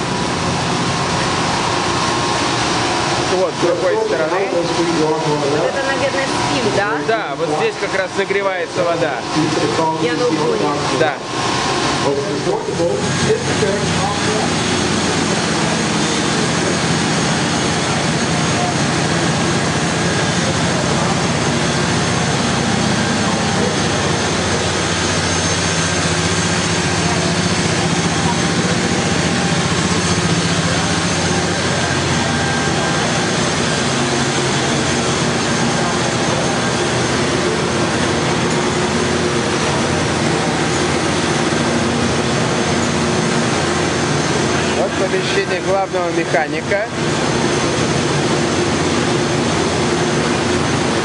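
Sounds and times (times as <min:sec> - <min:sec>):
steam engine machinery running: 0:00.0 - 0:51.0.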